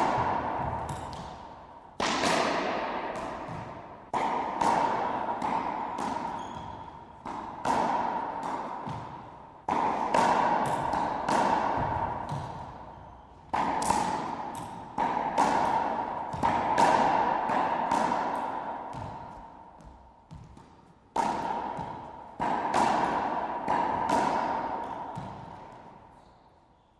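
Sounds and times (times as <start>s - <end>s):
racquetball hits echoing: 0.0s - 26.2s.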